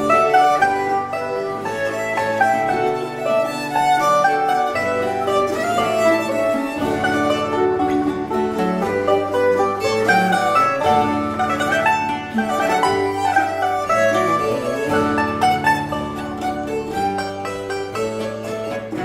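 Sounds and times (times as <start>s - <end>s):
baroque chamber ensemble: 0.0s - 19.0s.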